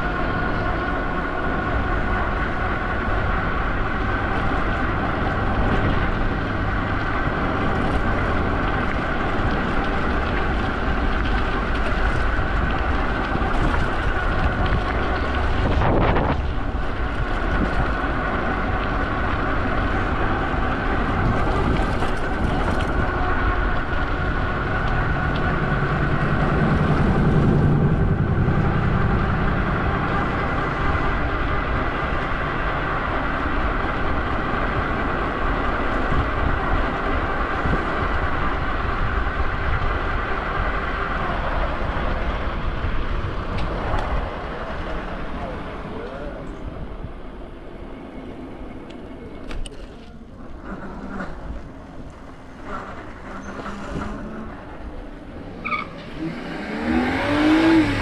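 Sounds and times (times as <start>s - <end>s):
deep hum: 0.0s - 47.2s
held whine: 0.0s - 58.0s
vehicle engine rumble: 0.0s - 58.0s.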